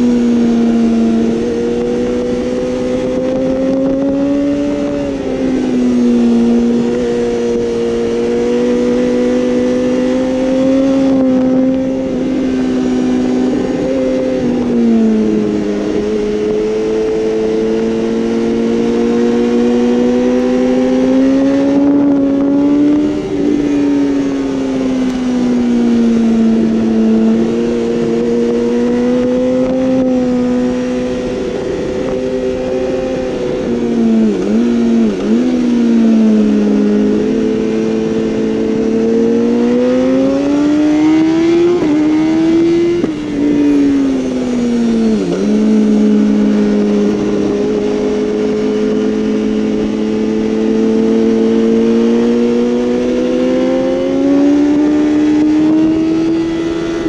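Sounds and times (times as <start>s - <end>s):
motorcycle engine pulling hard: 0.0s - 57.0s.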